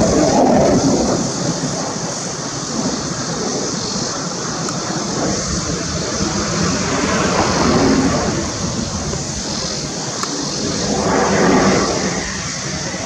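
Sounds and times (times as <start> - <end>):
jet engine roaring overhead: 0.0 - 13.0.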